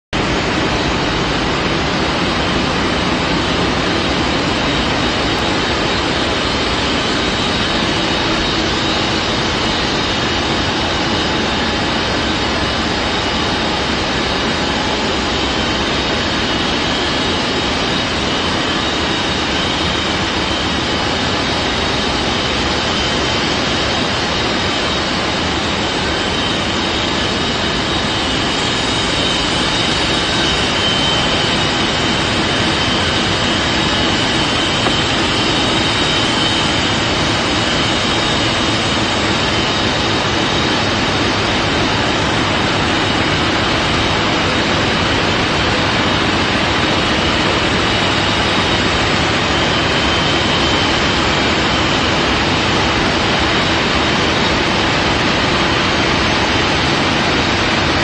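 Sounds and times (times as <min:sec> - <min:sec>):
die-cutting machine running: 0:00.2 - 0:58.0
faint high machine whine: 0:00.2 - 0:58.0.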